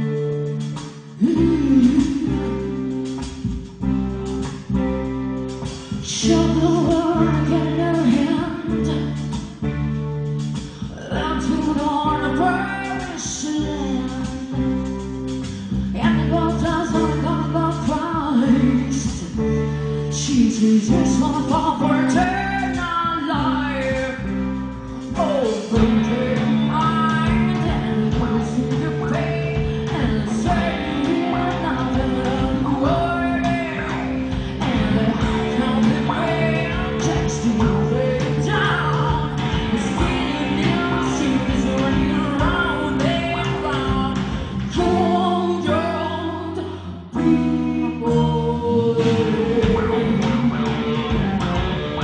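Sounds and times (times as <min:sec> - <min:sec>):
woman singing: 0:00.0 - 0:03.5, 0:05.7 - 0:51.2
bass guitar: 0:00.0 - 0:52.0
drums: 0:00.0 - 0:52.0
guitar: 0:00.0 - 0:52.0.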